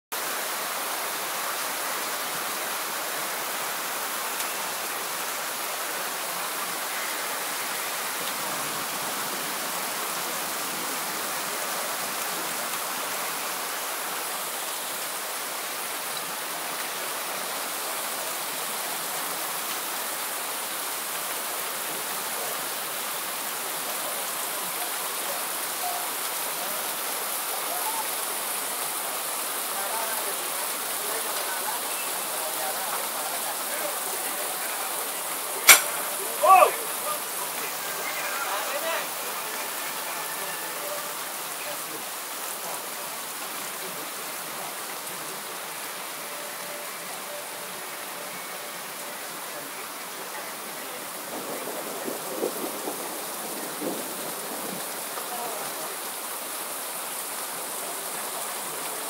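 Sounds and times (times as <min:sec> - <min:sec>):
rain pouring: 0:00.1 - 0:59.0.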